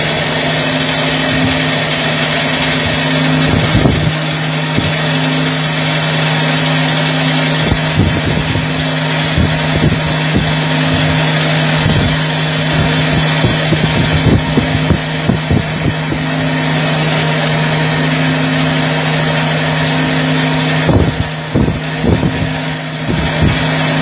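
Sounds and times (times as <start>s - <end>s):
cutting hiss: 0.0s - 24.0s
lathe machine hum: 0.0s - 24.0s.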